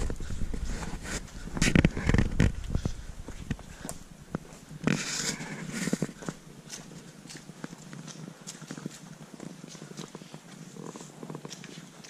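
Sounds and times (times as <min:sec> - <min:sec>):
footsteps on dirt trail: 0:00.0 - 0:12.0.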